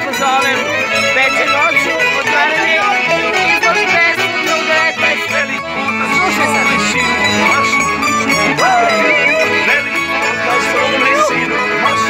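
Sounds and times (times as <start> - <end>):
folk band playing: 0.0 - 12.0
violin melody: 0.0 - 12.0.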